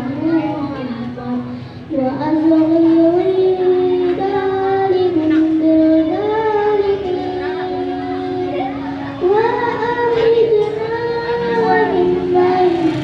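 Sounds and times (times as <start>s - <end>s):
children singing a devotional song: 0.0s - 13.0s.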